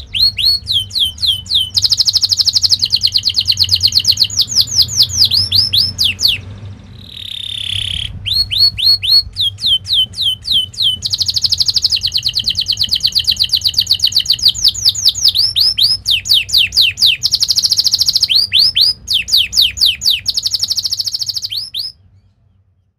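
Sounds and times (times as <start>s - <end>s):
canary singing: 0.0s - 22.6s.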